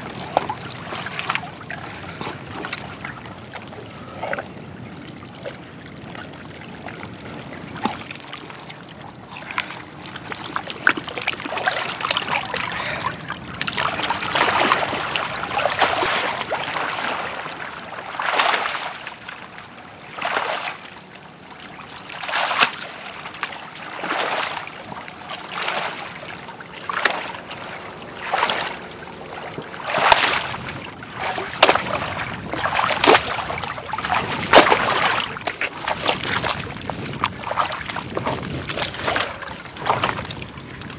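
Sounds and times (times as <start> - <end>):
mud and water sloshing: 0.0 - 40.9.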